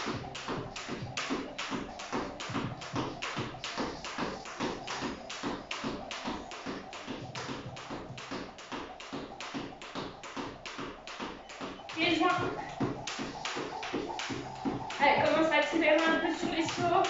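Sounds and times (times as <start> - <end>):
jump rope slapping tiled floor: 0.0 - 17.0.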